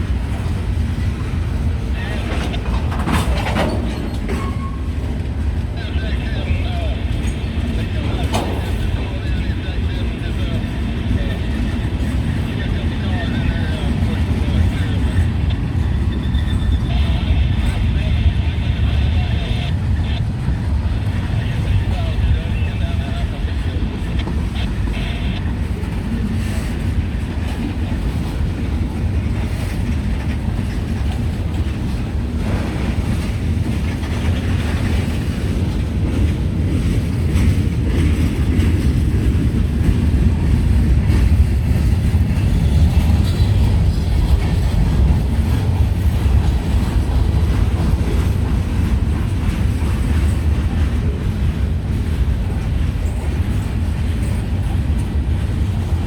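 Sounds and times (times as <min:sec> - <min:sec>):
train railcars rolling on rails: 0:00.0 - 0:56.0.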